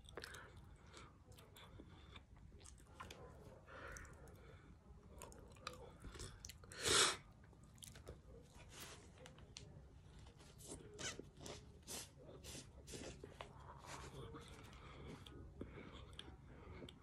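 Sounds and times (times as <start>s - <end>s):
person chewing with soft crunching: 0.0s - 17.0s.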